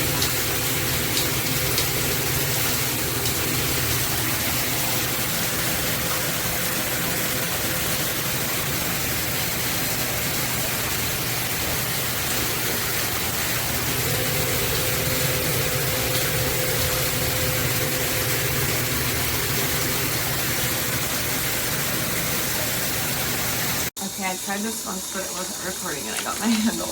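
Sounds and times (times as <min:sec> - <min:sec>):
shower head spraying water: 0:00.0 - 0:26.9.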